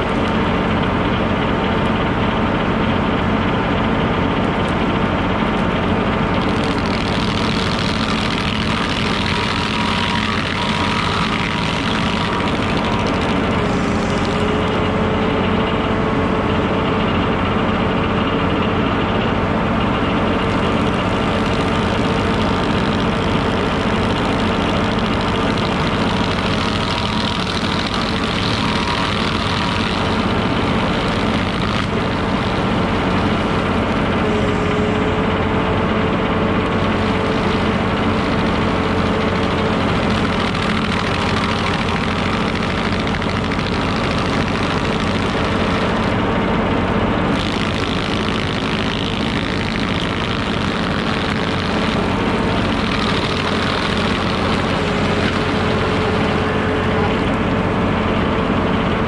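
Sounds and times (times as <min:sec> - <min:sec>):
stump grinder grinding stump: 0:00.0 - 0:18.5, 0:19.4 - 0:59.0
tractor engine running: 0:00.0 - 0:59.0.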